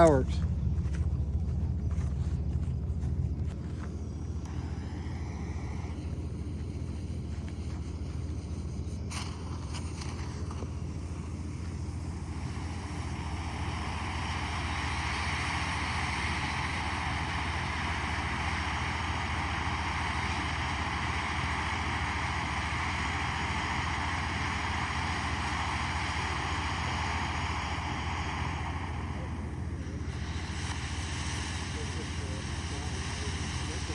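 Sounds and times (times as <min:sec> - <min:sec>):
low rumble: 0:00.0 - 0:33.9
firework fountain hissing: 0:03.2 - 0:33.9.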